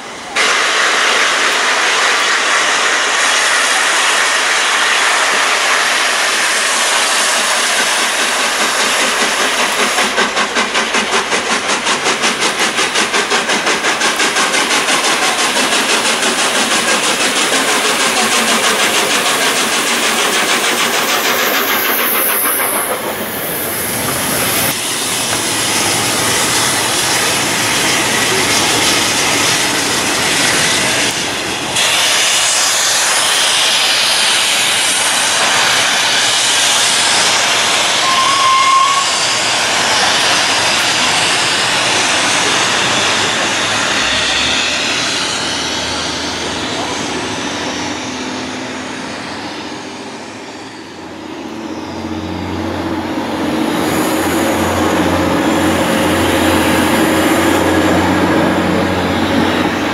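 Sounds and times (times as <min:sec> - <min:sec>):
rail noise: 0:00.0 - 0:59.9
steam locomotive passing: 0:00.0 - 0:59.9.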